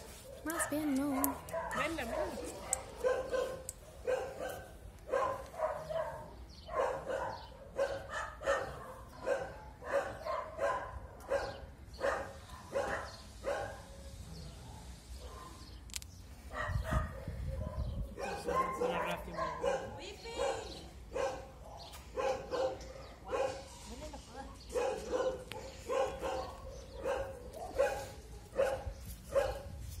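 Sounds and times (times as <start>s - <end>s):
dog barking: 0.0s - 15.6s, 16.5s - 23.7s, 24.7s - 29.7s.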